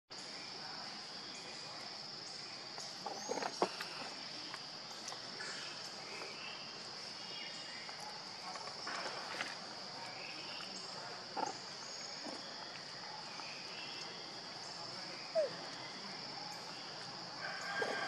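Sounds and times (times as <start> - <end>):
high-pitched insect chorus: 0.1 - 18.0.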